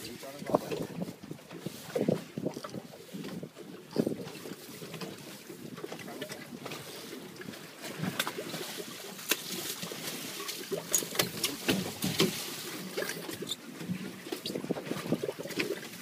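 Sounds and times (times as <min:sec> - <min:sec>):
water slapping against boat hull: 0:00.0 - 0:16.0.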